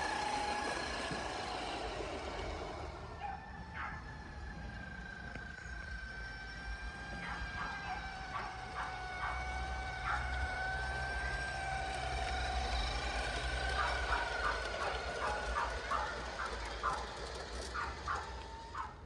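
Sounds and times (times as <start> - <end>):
model train whine: 0.0 - 19.0.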